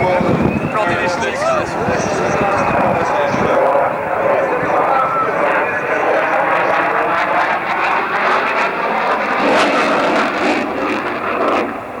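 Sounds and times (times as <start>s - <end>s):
aircraft engine roar: 0.0s - 12.0s.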